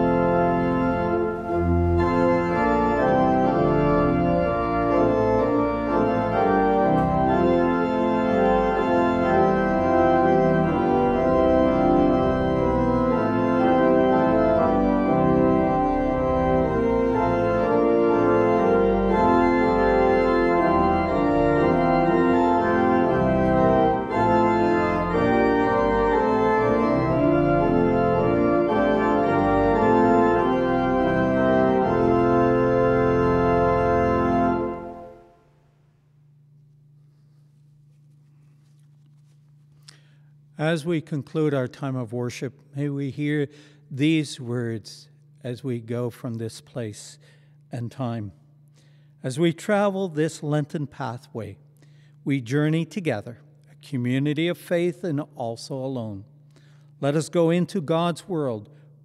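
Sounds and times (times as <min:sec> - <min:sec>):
pipe organ playing hymn chords: 0:00.0 - 0:59.0.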